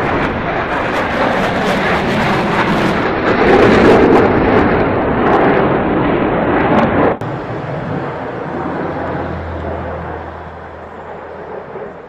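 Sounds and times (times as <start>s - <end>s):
fighter jet engine roaring: 0.0s - 12.0s.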